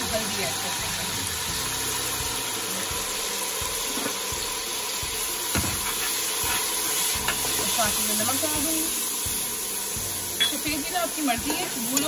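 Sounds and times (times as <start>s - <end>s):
oil and onions sizzling: 0.0s - 12.0s.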